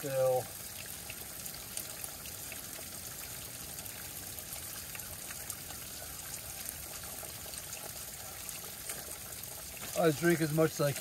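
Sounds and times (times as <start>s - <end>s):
small water drips: 0.0s - 11.0s.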